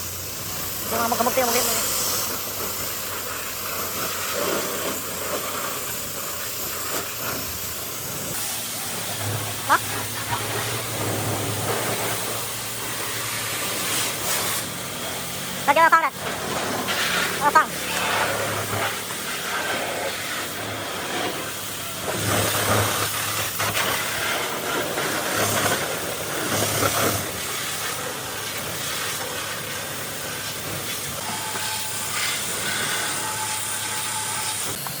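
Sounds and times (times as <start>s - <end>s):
pressure washer spraying water: 0.0s - 35.0s.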